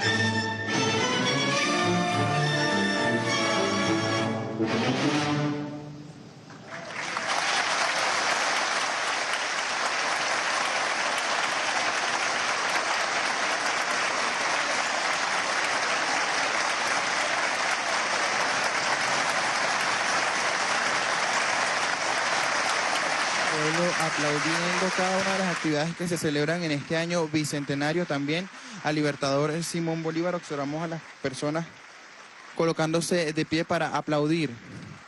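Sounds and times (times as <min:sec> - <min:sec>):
audience applause: 0:06.5 - 0:35.0.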